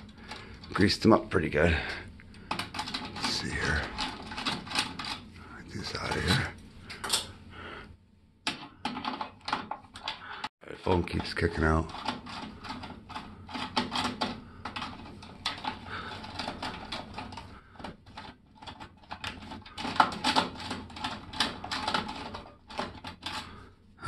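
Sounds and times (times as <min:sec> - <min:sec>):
small parts and tools clicking: 0:02.2 - 0:07.4, 0:08.4 - 0:10.5, 0:11.1 - 0:23.7.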